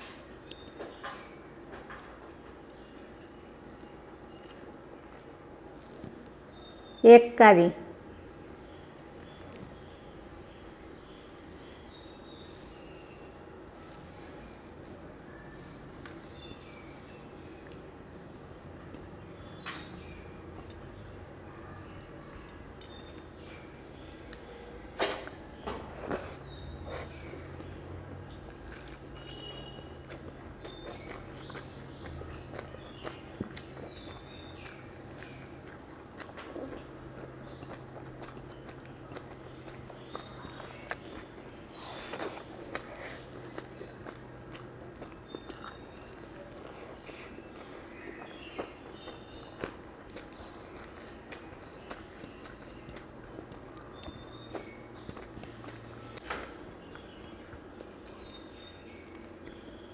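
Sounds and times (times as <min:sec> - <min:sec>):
person chewing with wet clicks: 0:00.0 - 0:01.1, 0:02.5 - 0:06.9, 0:08.0 - 0:10.0, 0:13.8 - 0:59.9.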